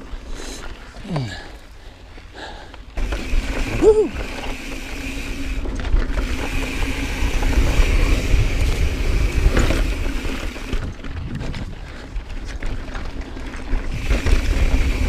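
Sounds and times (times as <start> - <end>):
bike tyres rolling over dirt: 0.0 - 15.0.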